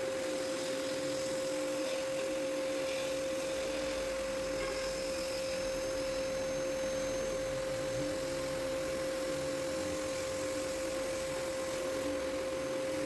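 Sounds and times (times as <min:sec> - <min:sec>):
drum sander motor whining: 0:00.0 - 0:13.0.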